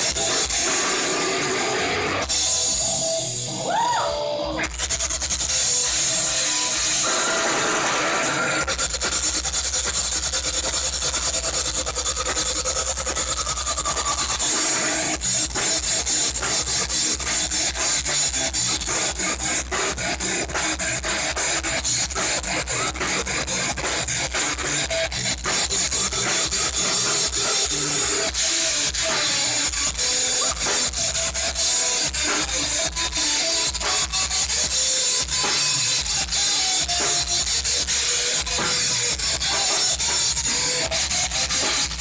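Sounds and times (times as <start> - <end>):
fast rapid drumming: 0.0 - 3.2, 4.6 - 42.0
heavy metal band playing live: 0.0 - 42.0.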